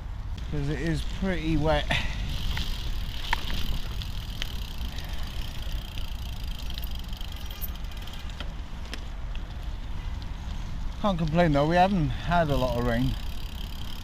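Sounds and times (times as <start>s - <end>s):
bike tyres on gravel: 0.0s - 14.0s.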